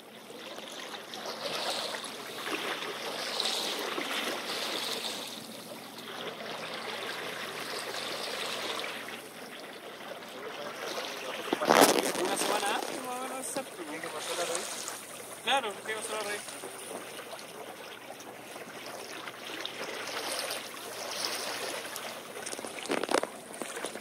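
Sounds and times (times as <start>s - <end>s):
water splashing against boat hull: 0.0s - 24.0s.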